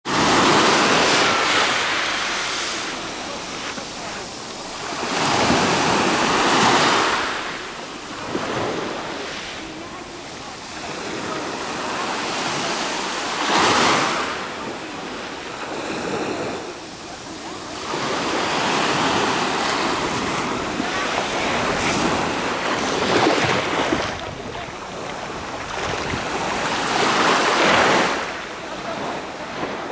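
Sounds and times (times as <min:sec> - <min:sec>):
sea waves washing onto beach: 0:00.0 - 0:29.9.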